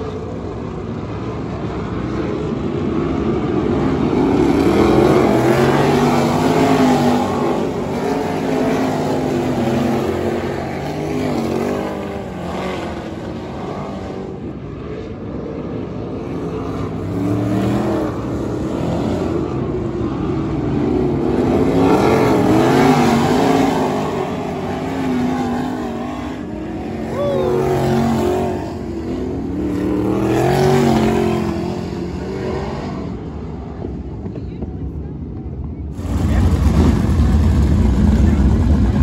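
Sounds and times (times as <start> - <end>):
racing car engines: 0.0 - 39.0.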